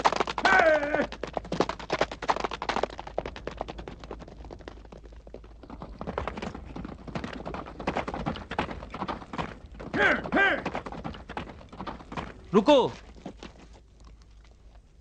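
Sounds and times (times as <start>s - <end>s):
horses galloping on stony ground: 0.0s - 15.0s.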